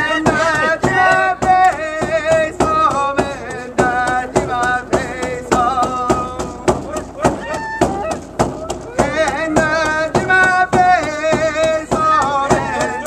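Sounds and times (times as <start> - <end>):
man singing: 0.0 - 7.5, 8.9 - 13.0
percussion beat: 0.0 - 13.0.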